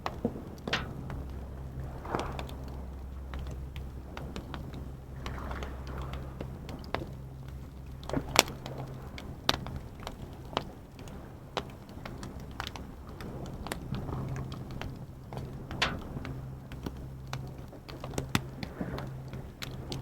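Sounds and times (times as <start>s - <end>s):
campfire wood crackling: 0.0s - 20.0s.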